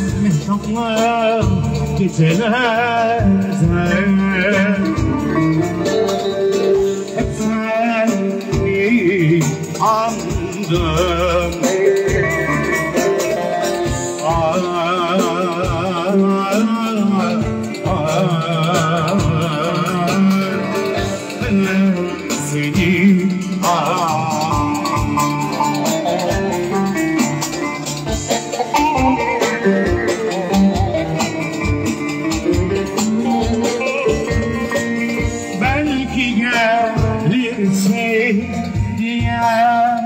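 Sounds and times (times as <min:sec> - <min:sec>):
person singing with vibrato: 0:00.0 - 0:40.0
plucked strings: 0:00.0 - 0:40.0
steady bass: 0:00.0 - 0:40.0.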